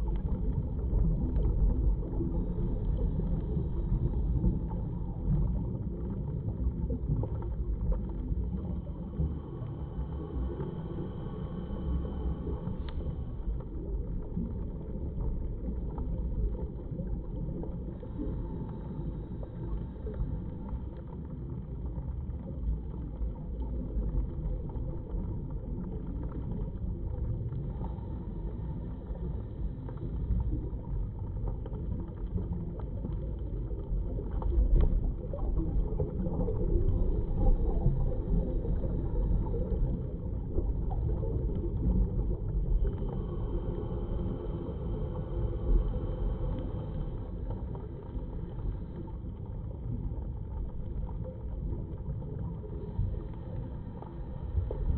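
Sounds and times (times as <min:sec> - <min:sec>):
muffled underwater rumble: 0:00.0 - 0:54.9.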